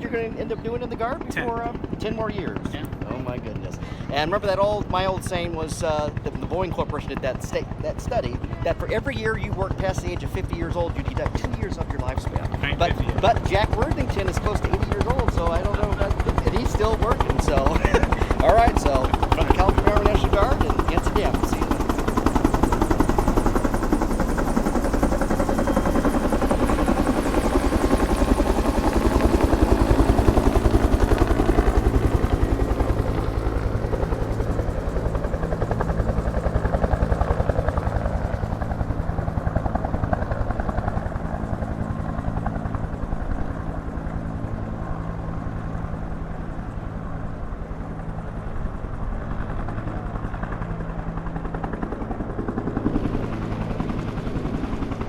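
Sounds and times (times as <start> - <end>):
helicopter rotor beating: 0.0 - 55.0.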